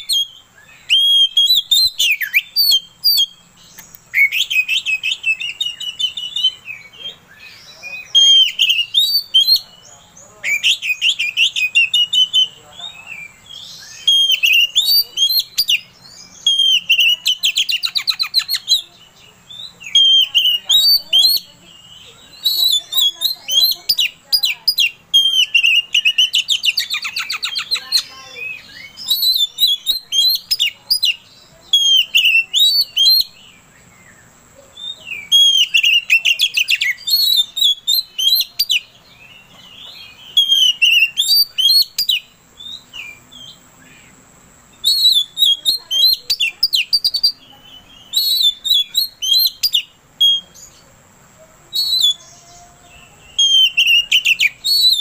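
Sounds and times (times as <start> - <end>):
bird singing whistles and chirps: 0.0 - 50.9, 51.7 - 55.0.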